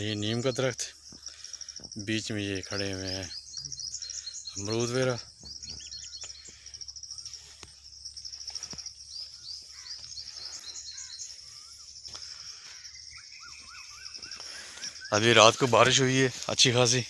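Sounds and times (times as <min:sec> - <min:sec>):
birds chirping: 0:00.0 - 0:17.0
high-pitched insect trill: 0:00.0 - 0:17.0.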